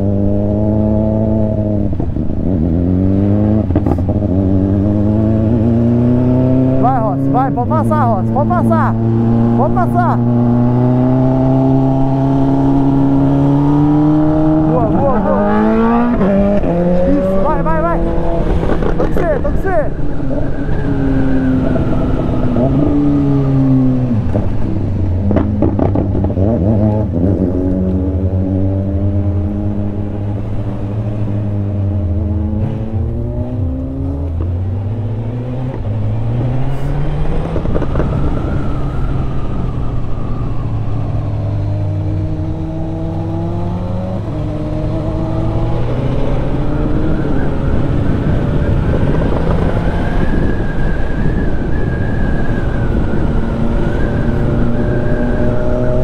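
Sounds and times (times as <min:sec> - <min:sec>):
motorcycle engine accelerating: 0:00.0 - 0:56.0
wind rush: 0:01.4 - 0:56.0.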